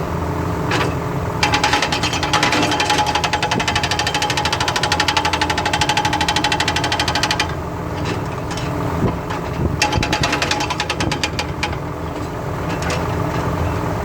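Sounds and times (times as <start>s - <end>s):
excavator engine running: 0.0s - 14.0s
scattered knocks: 0.7s - 13.5s
hydraulic breaker hammering: 0.7s - 13.8s.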